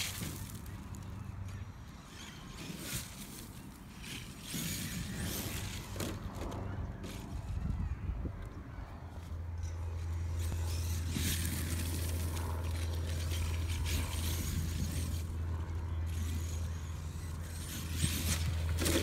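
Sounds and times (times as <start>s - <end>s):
rc truck low rumble: 0.0s - 19.0s.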